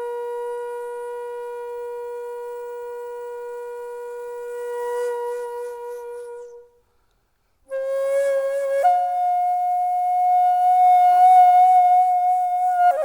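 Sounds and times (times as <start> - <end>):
bamboo flute long notes: 0.0 - 6.8, 7.7 - 13.0.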